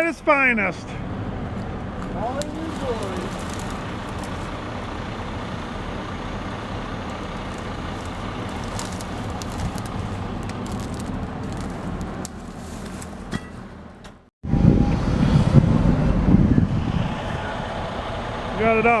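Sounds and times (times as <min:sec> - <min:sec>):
diesel machinery engine running: 0:00.3 - 0:19.0.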